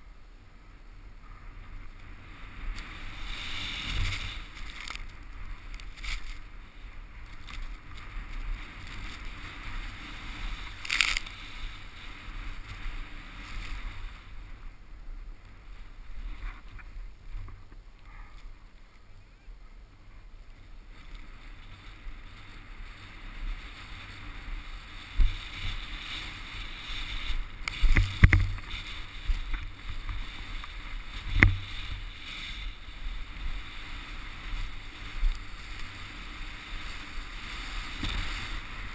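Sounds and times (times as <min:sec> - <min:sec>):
snowboard sliding through snow: 0:00.0 - 0:19.1, 0:19.8 - 0:38.9.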